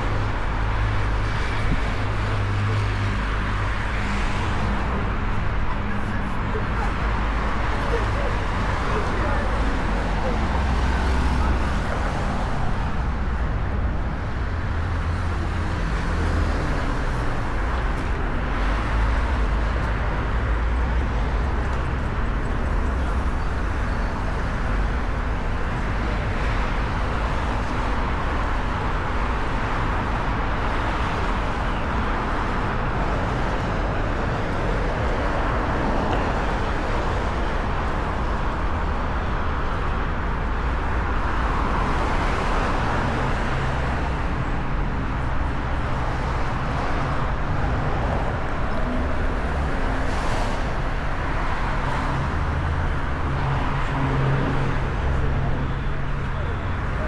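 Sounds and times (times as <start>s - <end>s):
car engines and tyres: 0.0s - 57.0s.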